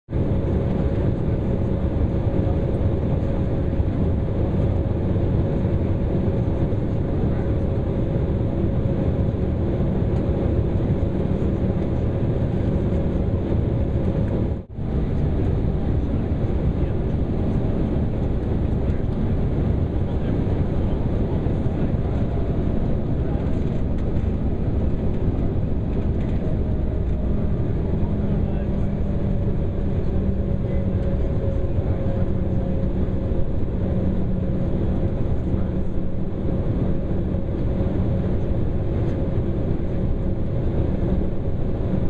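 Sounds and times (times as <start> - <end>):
jet engines idling hum: 0.1 - 42.0.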